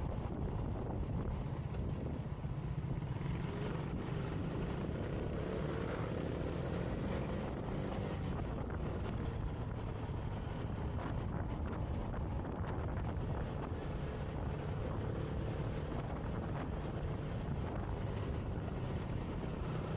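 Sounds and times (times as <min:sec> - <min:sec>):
wind rush over microphone: 0:00.0 - 0:19.9.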